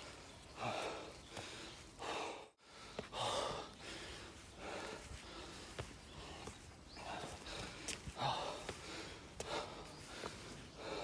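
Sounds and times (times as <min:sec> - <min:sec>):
man panting heavily: 0:00.0 - 0:11.0.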